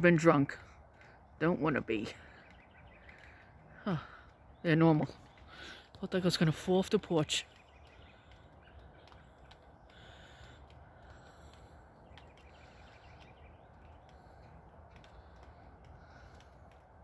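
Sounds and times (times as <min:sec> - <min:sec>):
distant birds calling: 0:00.0 - 0:17.0
light clicks: 0:02.2 - 0:17.0.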